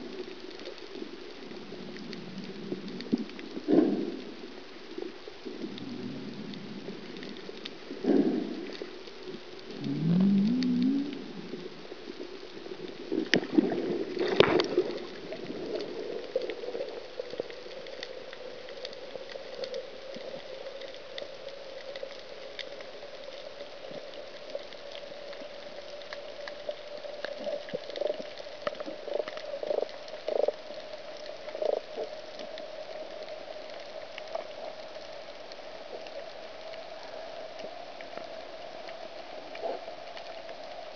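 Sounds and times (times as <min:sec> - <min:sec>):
underwater clicks and crackles: 0:00.0 - 0:40.9.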